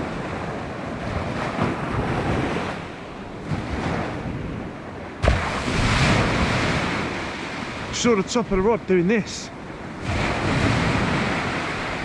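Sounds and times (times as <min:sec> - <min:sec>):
wind buffeting microphone: 0:00.0 - 0:08.7, 0:09.5 - 0:12.0
sea waves breaking on shore: 0:00.0 - 0:12.0.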